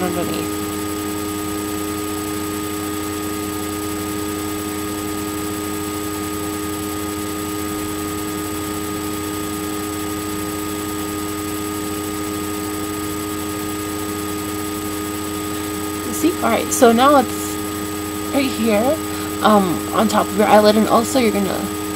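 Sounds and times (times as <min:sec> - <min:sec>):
constant hum: 0:00.0 - 0:21.9
steady whining tones: 0:00.0 - 0:21.9.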